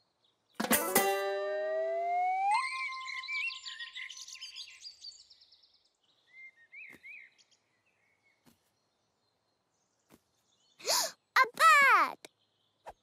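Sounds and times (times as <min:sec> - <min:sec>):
birds chirping and trilling: 0:00.0 - 0:11.3, 0:12.2 - 0:13.0.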